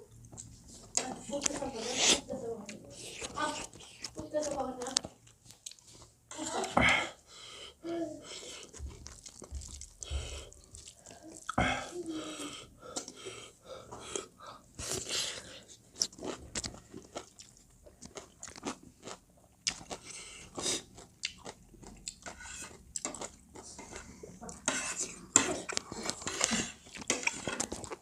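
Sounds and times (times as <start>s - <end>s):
person chewing food: 0.0s - 7.1s, 8.2s - 28.0s.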